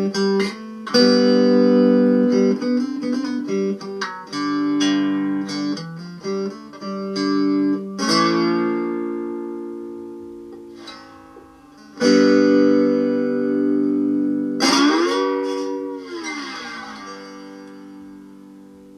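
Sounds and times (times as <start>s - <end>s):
guitar chords ringing out: 0.0s - 18.9s
plucked guitar notes: 0.0s - 18.9s.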